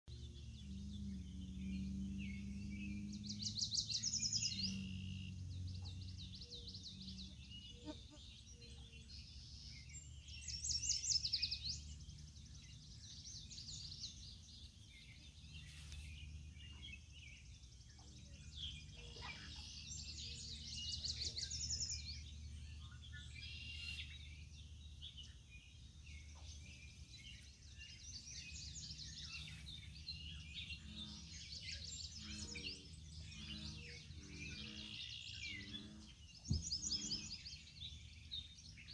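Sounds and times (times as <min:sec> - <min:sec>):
bird chirps: 0:00.0 - 0:38.9
songbird singing rapid notes: 0:00.0 - 0:38.9.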